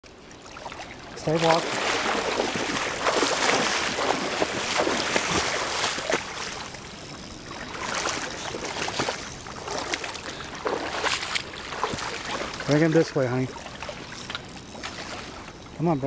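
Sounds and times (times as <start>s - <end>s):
water splashing around wading legs: 0.1s - 15.9s
river riffle running: 0.1s - 16.0s.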